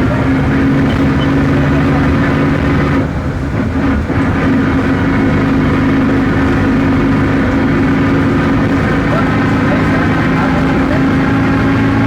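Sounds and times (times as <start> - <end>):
bus diesel engine running: 0.0 - 12.0
drivetrain hum: 0.0 - 12.0.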